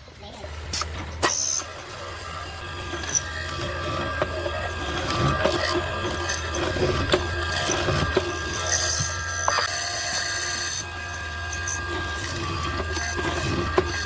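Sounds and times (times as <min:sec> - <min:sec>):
steady low hum: 0:00.0 - 0:14.0
hand tools rubbing and scraping wood: 0:00.8 - 0:14.0.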